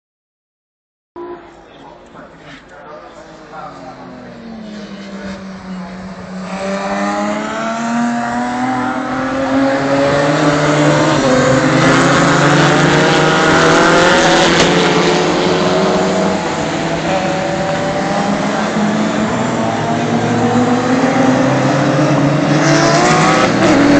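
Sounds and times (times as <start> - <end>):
racing car engines at high revs: 3.2 - 23.9.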